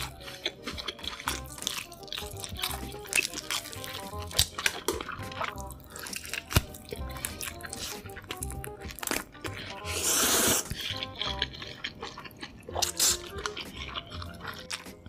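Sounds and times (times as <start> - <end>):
lip-smacking clicks: 0.0 - 9.8, 10.6 - 15.0
background music: 0.0 - 15.0
wet chewing: 0.0 - 15.0.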